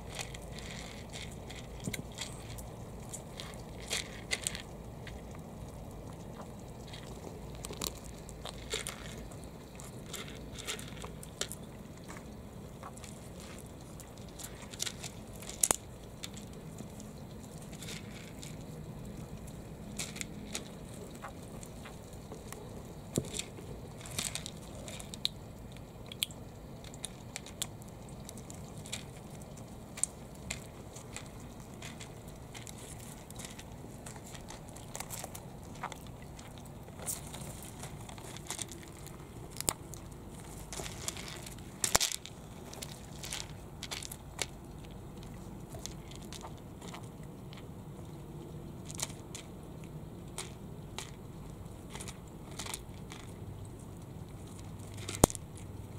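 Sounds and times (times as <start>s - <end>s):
turtles crunching food pellets: 0.0s - 55.9s.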